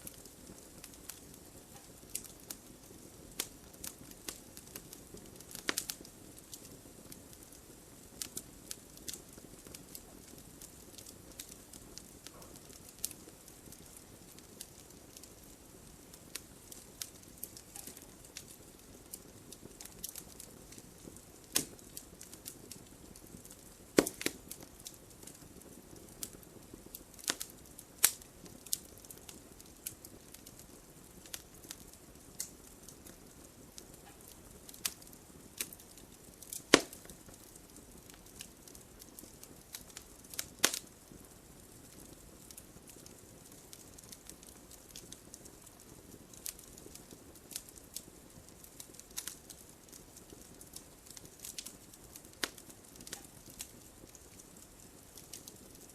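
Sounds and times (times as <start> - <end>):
fire crackling and popping: 0.0 - 55.9
hiss of flames: 0.0 - 55.9.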